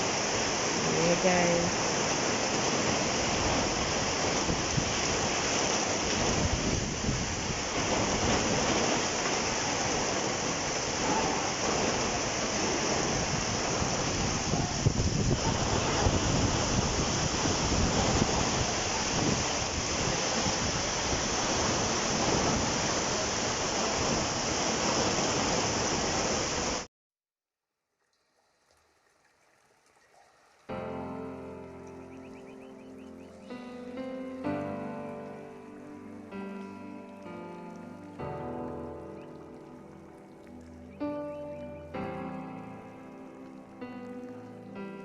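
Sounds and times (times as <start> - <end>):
rushing water roar: 0.0 - 26.9, 28.6 - 45.0.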